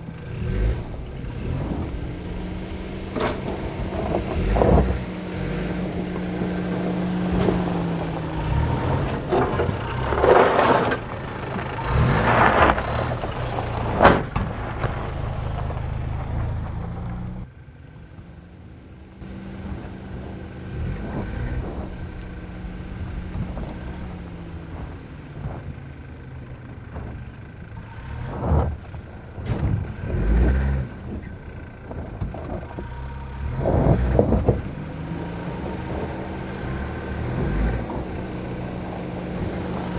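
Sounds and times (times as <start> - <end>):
pickup truck engine revving: 0.0 - 14.4, 19.2 - 39.9
tyres crunching over dirt and stones: 1.8 - 17.4, 19.2 - 39.9.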